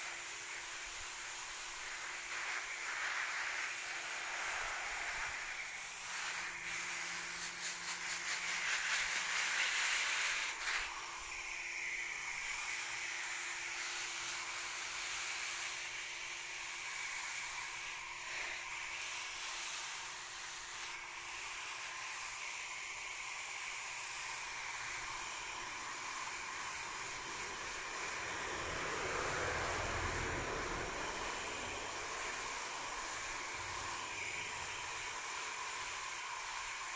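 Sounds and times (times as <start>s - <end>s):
hose spray hissing on foliage: 0.0s - 36.9s.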